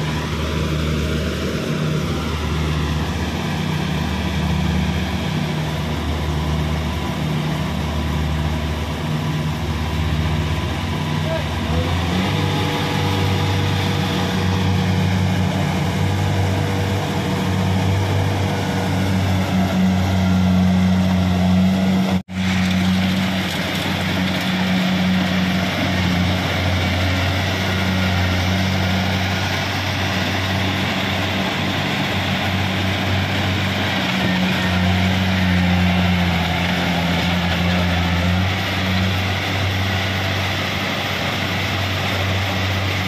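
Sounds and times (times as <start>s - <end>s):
diesel engine humming: 0.0s - 43.0s
harvesting machinery: 0.0s - 43.0s.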